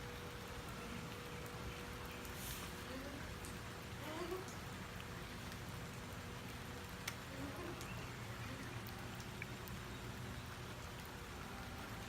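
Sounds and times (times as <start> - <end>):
rain falling: 0.0 - 12.0
water drips clicking: 0.0 - 12.0.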